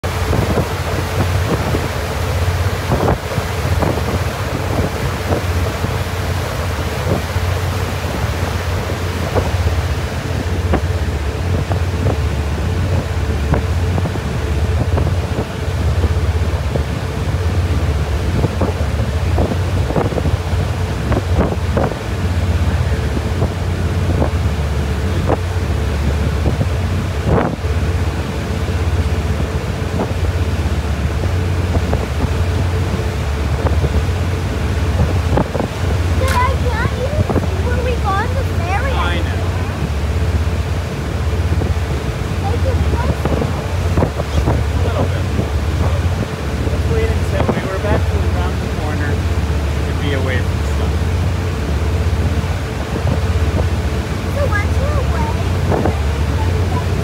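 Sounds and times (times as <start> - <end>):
ferry engines droning: 0.0 - 57.0
water rushing: 0.0 - 57.0
wind buffeting microphone: 0.0 - 57.0.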